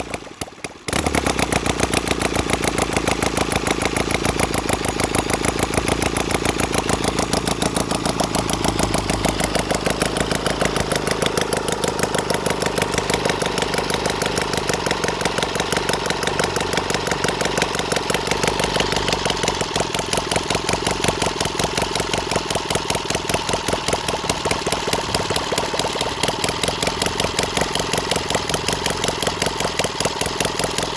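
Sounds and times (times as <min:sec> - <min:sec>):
boxer engine running: 0:00.0 - 0:30.9.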